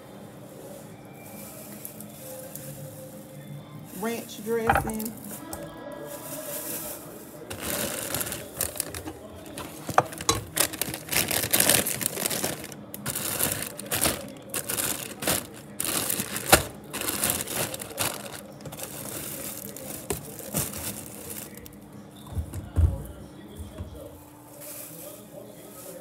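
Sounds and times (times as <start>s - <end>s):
grocery bags crinkling: 0.0s - 26.0s.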